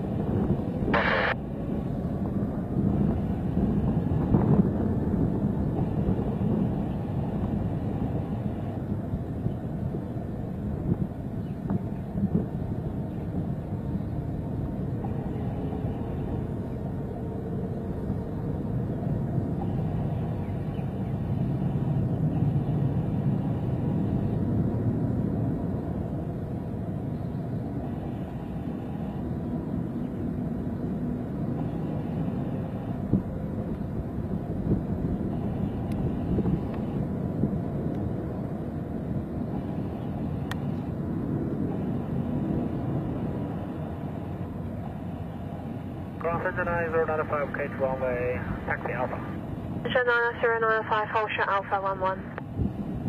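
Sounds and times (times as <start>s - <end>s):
jet engines at takeoff: 0.0s - 53.0s.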